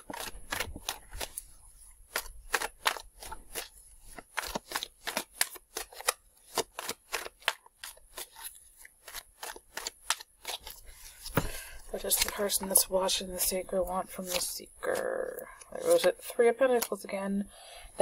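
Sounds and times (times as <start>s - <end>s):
cards being shuffled: 0.0s - 17.2s.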